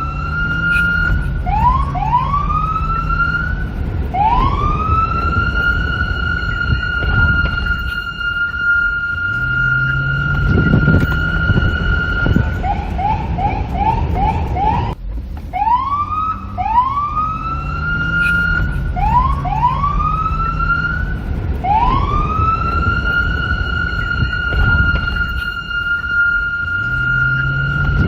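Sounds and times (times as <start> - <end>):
low rumble: 0.0 - 28.0
police car siren: 0.0 - 28.0.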